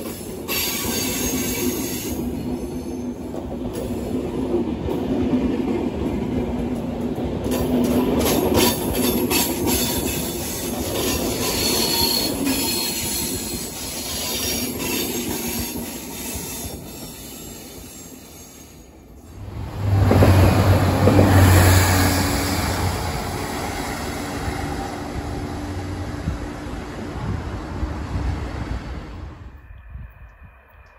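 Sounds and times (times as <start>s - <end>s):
electric train rumble and hum: 0.0s - 30.9s.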